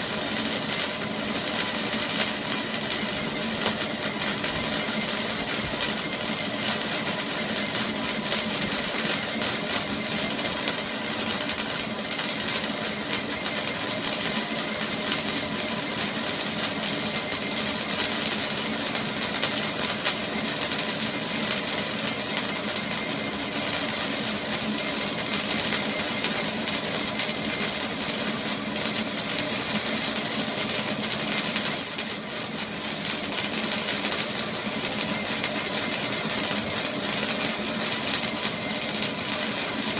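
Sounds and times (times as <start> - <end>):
machine humming and hissing: 0.0 - 39.9.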